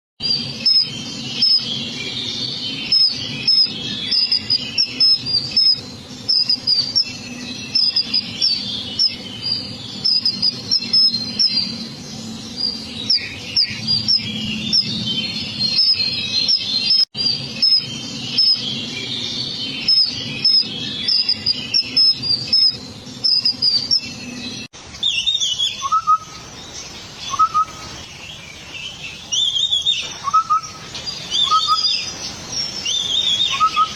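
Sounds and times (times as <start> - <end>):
low background noise: 0.2 - 33.9
small birds chirping: 0.2 - 33.9.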